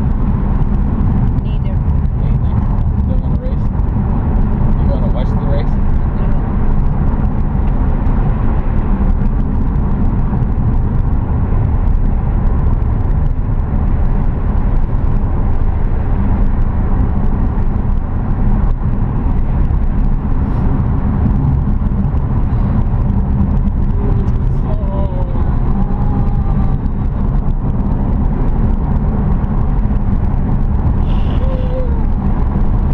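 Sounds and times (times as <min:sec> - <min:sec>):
car tyres and engine rumble: 0:00.0 - 0:32.9.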